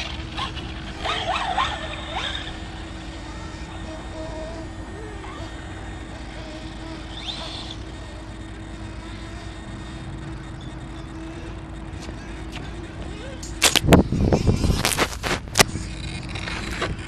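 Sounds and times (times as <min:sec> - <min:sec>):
faint hum: 0:00.0 - 0:17.0
faint rising whine: 0:00.0 - 0:17.0.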